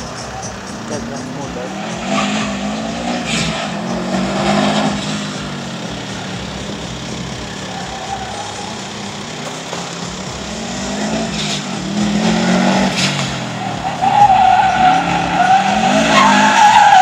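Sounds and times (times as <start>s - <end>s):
car engine revving hard: 0.0s - 17.0s
tyres squealing: 0.0s - 17.0s.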